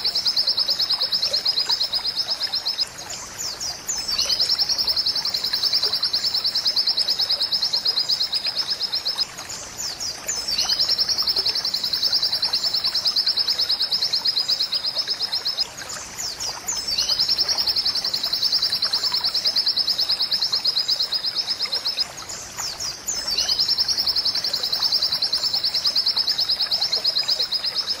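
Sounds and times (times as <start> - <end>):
bird singing fast trills: 0.0 - 15.6, 16.2 - 22.0, 22.7 - 28.0.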